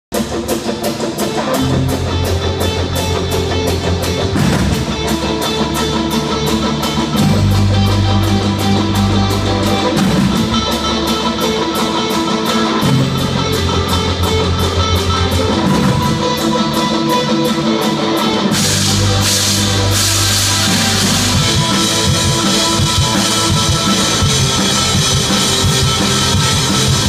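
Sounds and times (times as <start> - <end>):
drum kit cymbal beat: 0.1 - 27.0
electric guitars: 0.1 - 27.0
low bass notes: 1.5 - 17.8, 18.4 - 27.0.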